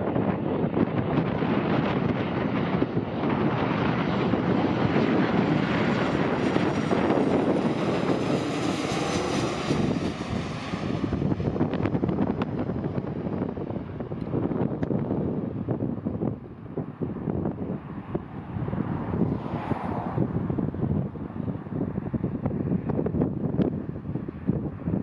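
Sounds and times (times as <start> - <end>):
jet engine passing overhead: 0.0 - 25.0
wind buffeting microphone: 0.0 - 25.0.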